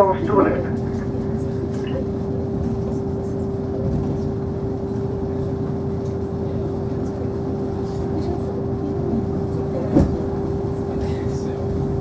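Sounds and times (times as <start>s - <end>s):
constant steady hum: 0.0s - 12.0s
train running rumble: 0.0s - 12.0s.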